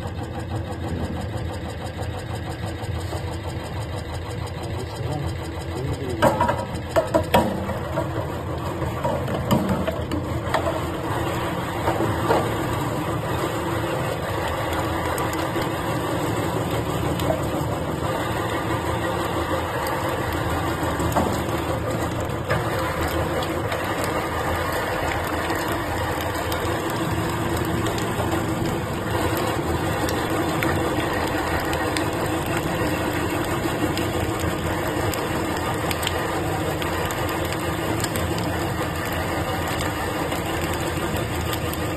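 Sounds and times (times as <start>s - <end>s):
electric meat grinder running: 0.1s - 41.9s.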